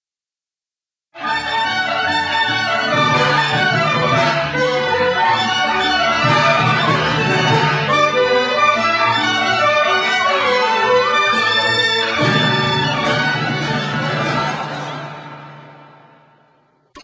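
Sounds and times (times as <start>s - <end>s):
orchestral music: 1.2s - 16.6s.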